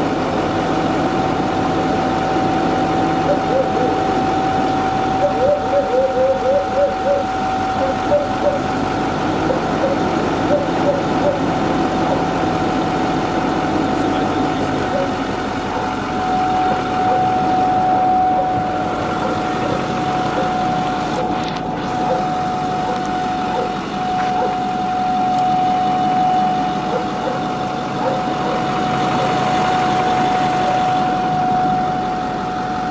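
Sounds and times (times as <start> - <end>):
high-pitched whine: 0.0 - 32.9
pickup truck engine idling: 0.0 - 32.9.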